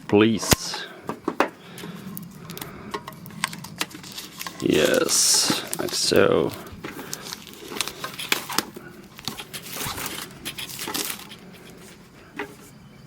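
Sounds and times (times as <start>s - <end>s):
plastic shrink-wrap crinkling: 1.7s - 12.7s.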